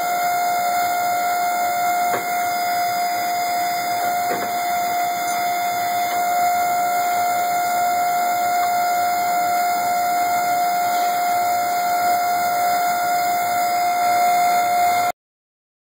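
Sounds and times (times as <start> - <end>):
bending machine steady tone: 0.0 - 15.1.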